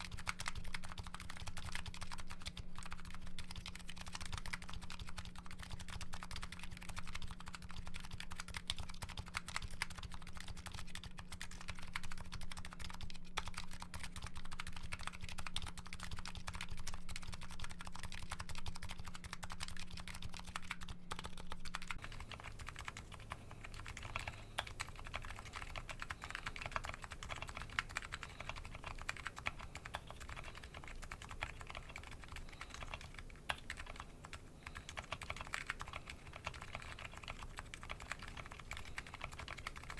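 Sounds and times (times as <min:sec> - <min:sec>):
faint steady hum: 0:00.0 - 0:39.9
fast keyboard typing: 0:00.0 - 0:39.9.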